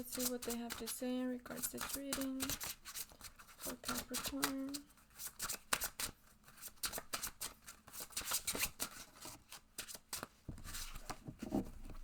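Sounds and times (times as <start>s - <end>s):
cards being shuffled: 0.0s - 0.9s, 1.6s - 11.5s.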